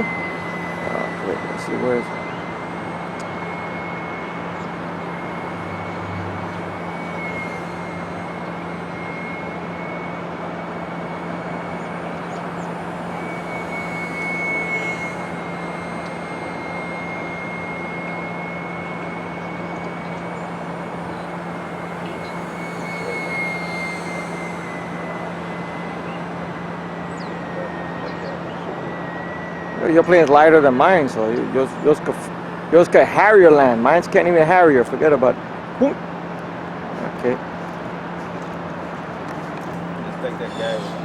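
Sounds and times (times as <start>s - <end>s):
model plane motor whine: 0.0s - 41.0s.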